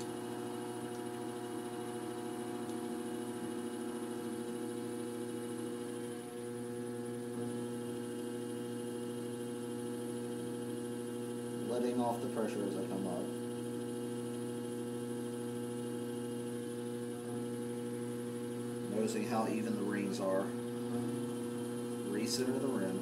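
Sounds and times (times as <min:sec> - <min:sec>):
potter's wheel motor humming: 0:00.0 - 0:23.0.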